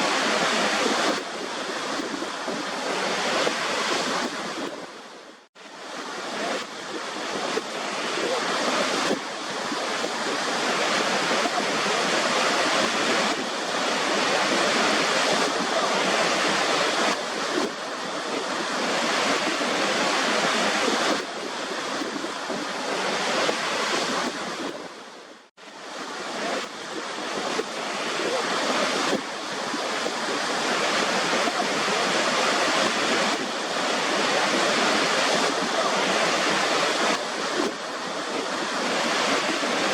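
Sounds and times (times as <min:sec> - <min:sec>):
waterfall rushing: 0:00.0 - 0:25.1, 0:25.7 - 0:39.9.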